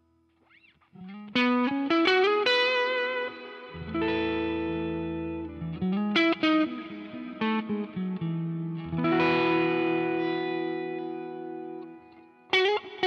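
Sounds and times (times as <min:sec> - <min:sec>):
overdriven electric guitar lead: 0:00.5 - 0:13.0.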